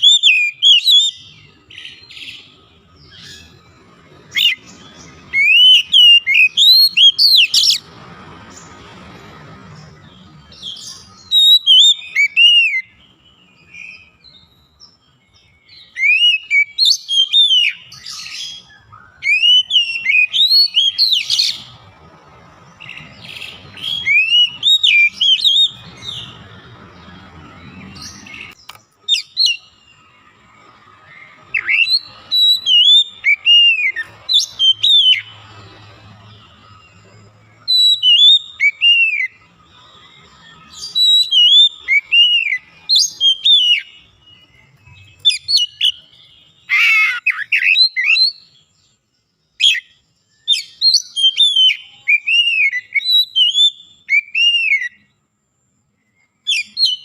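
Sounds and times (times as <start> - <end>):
bird singing whistled runs: 9.7 - 48.9, 49.5 - 55.1, 56.1 - 57.0.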